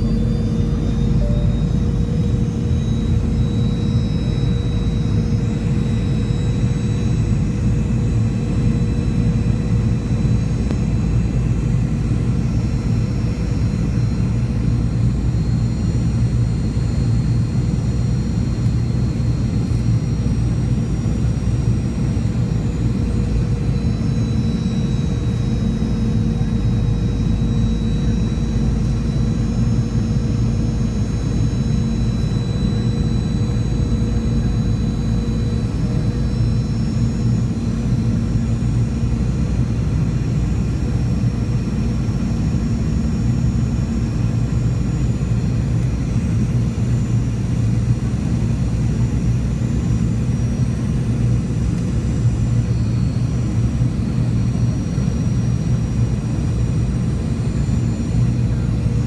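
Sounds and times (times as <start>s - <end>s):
airplane cabin drone: 0.0s - 59.0s
faint high-pitched whines: 0.0s - 59.0s.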